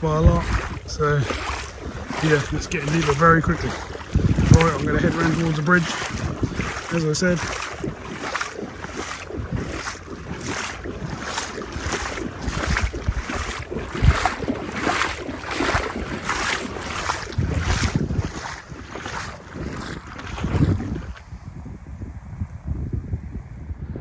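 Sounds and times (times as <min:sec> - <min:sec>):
wading through water: 0:00.0 - 0:21.5
wind buffeting microphone: 0:00.0 - 0:24.0.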